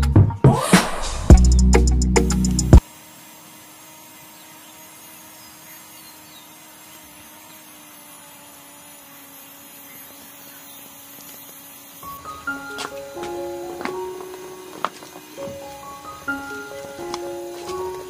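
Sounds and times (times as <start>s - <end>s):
small electric motor humming: 2.5s - 18.0s.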